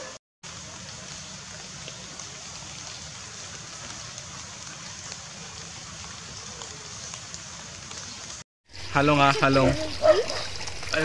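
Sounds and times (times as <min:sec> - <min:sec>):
light rain hissing: 0:00.4 - 0:11.0
ticks of raindrops: 0:00.4 - 0:11.0.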